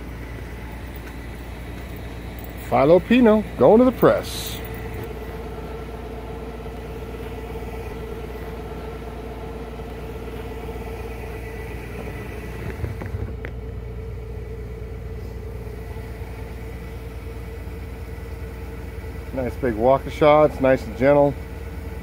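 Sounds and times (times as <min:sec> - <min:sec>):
pump humming: 0:00.0 - 0:22.0.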